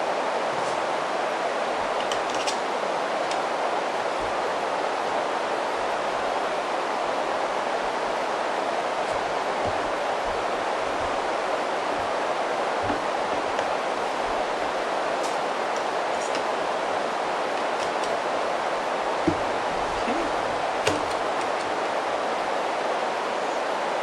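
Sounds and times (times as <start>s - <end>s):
microphone hiss: 0.0s - 24.0s.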